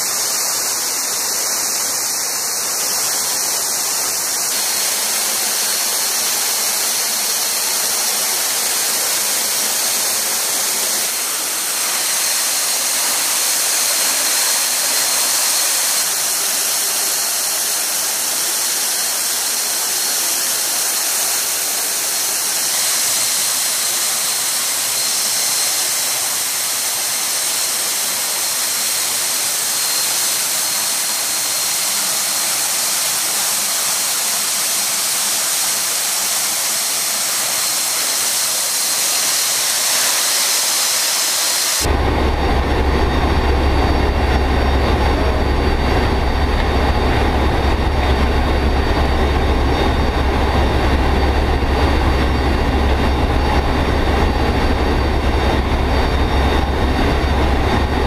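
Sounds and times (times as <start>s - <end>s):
faint high whine: 0.0s - 58.0s
jet engine and airflow rush: 0.0s - 58.0s.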